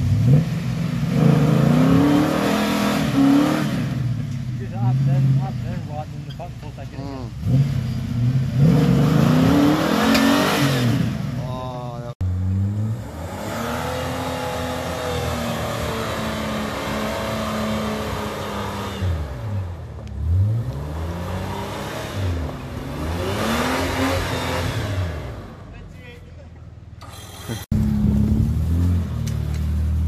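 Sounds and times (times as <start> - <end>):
off-road engines revving: 0.0 - 25.8, 27.0 - 30.0.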